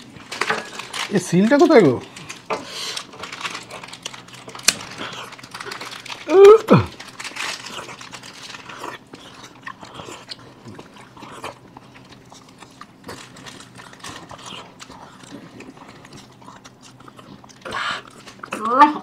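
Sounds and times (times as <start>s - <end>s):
mouth chewing noises: 2.0s - 19.0s.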